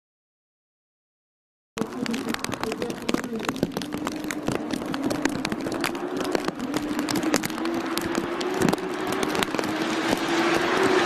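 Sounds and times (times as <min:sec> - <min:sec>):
sharp irregular clicks: 0:01.8 - 0:11.0.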